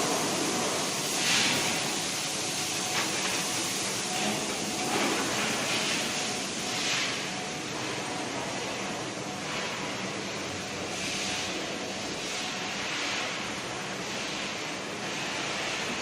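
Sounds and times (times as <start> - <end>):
milling machinery running: 0.0 - 16.0.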